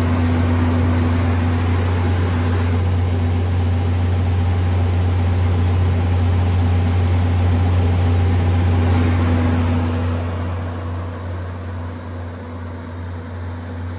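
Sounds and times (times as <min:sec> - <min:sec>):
diesel generator running: 0:00.0 - 0:13.9.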